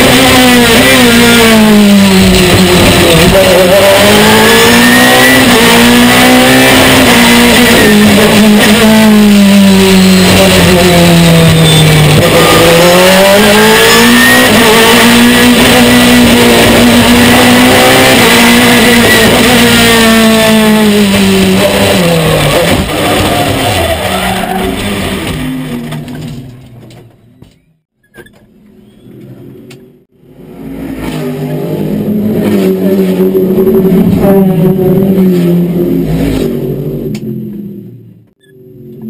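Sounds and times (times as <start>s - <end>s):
racing engine revving: 0.0s - 26.1s, 30.1s - 39.0s.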